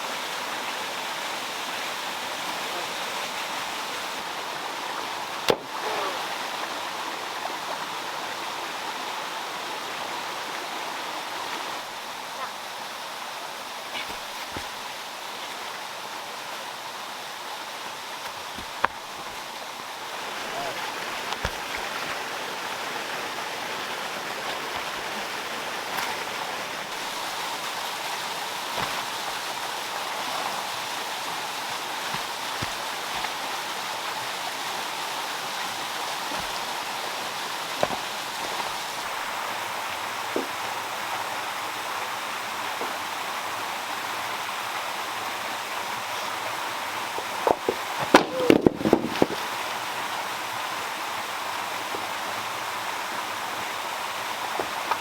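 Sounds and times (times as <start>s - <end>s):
water pouring down waterfall: 0.0s - 55.0s.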